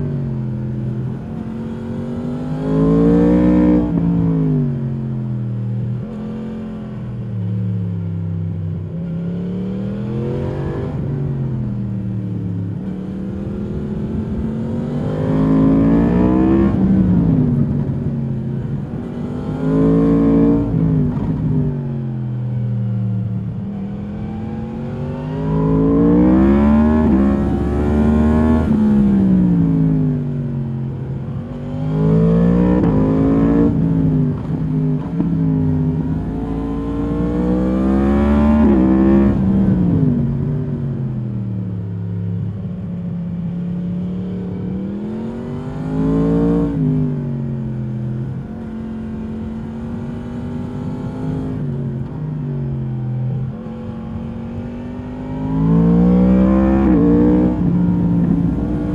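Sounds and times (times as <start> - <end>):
motorcycle engine revving: 8.8 - 42.5, 43.8 - 58.9.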